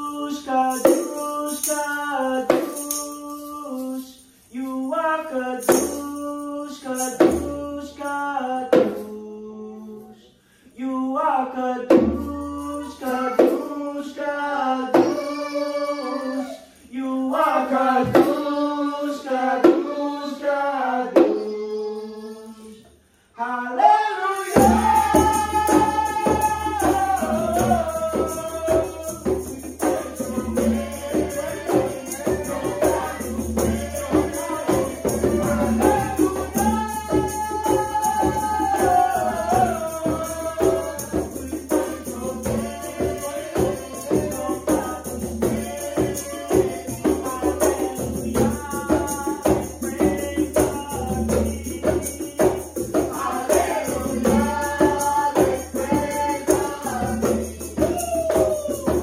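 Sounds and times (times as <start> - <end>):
shaken tambourine: 0.0 - 11.3, 11.9 - 23.1, 24.2 - 59.0
group singing a chant: 10.8 - 59.0.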